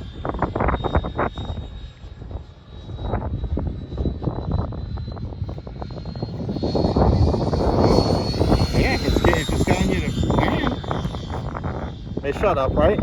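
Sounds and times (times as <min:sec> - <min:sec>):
electric ducted fan whining: 0:00.0 - 0:13.0
wind buffeting on microphone: 0:00.0 - 0:13.0.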